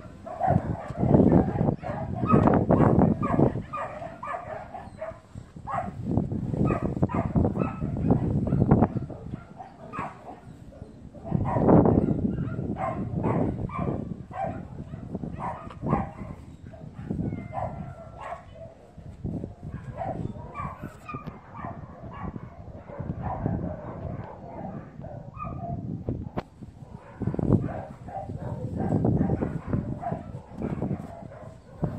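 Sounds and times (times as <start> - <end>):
dog barking: 0.0 - 6.0, 6.6 - 19.0, 19.6 - 31.9.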